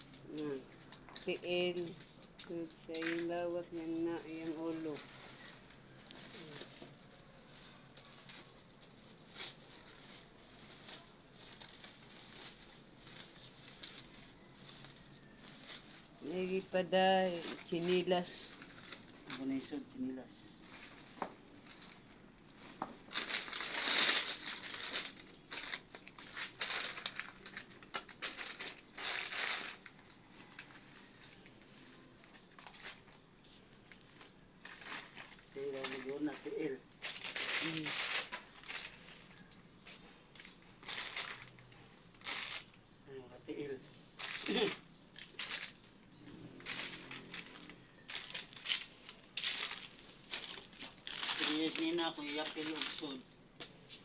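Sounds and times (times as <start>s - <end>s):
plastic sheeting crinkling: 3.8s - 42.9s, 43.6s - 46.0s, 46.6s - 53.2s.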